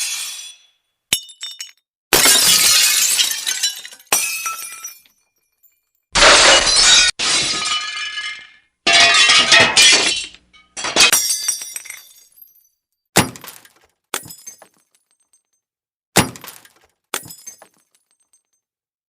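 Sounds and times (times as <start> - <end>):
glass smashing: 0.0 - 15.5, 16.2 - 18.6.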